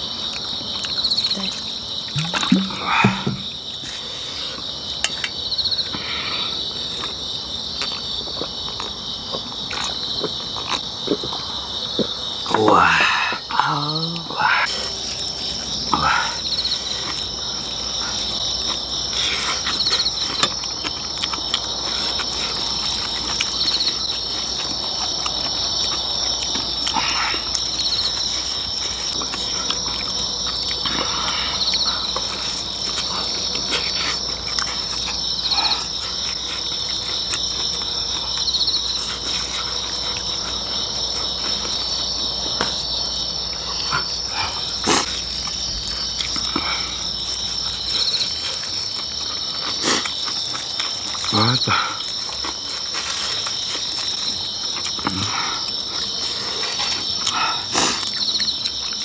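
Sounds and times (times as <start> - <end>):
crickets chirring: 0.0 - 59.0
people chewing and lip-smacking: 0.1 - 59.0.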